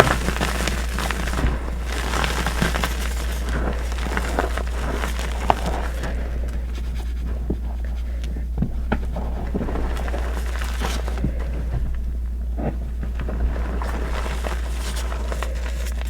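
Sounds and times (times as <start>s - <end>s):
chalk crushed by hand: 0.0s - 16.0s
steady low hum: 0.0s - 16.0s.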